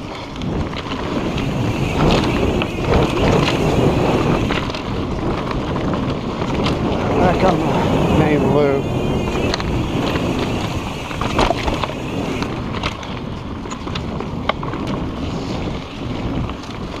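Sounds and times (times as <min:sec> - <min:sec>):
bike clicks and rattles: 0:00.0 - 0:17.0
bike tyre rumble: 0:00.0 - 0:17.0
wind buffeting microphone: 0:00.0 - 0:17.0.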